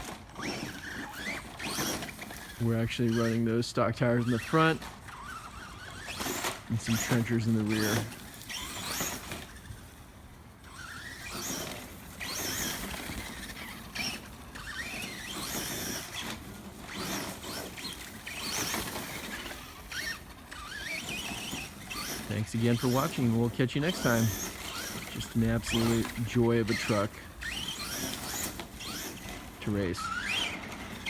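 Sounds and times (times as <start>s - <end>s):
toy truck electric motor whining: 0.0s - 31.0s.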